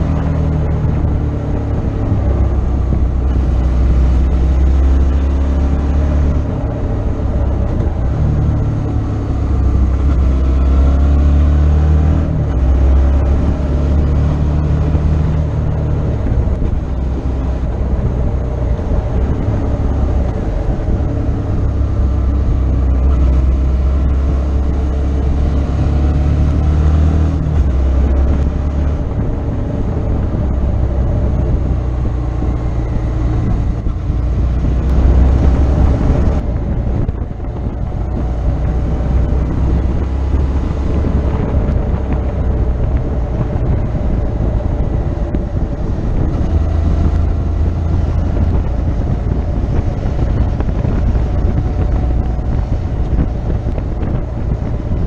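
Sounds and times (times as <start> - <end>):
motorcycle engine revving: 0.0 - 55.0
wind buffeting microphone: 0.0 - 55.0.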